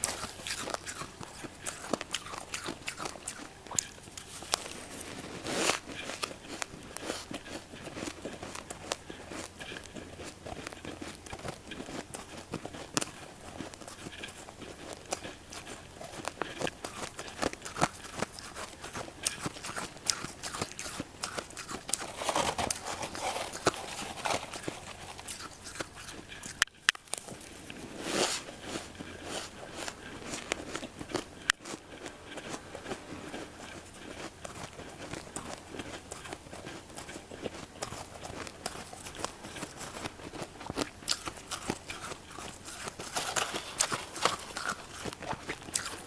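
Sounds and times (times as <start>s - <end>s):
chewing crunchy frost: 0.0s - 46.0s.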